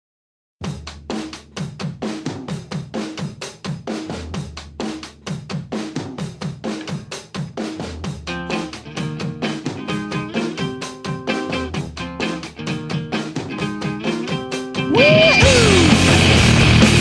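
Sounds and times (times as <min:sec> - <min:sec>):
drum kit playing fast beat: 0:00.6 - 0:17.0.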